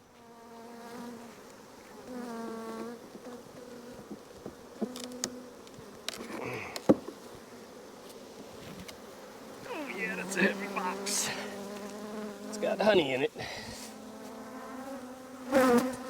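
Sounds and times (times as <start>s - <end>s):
honeybees buzzing: 0.1s - 16.0s.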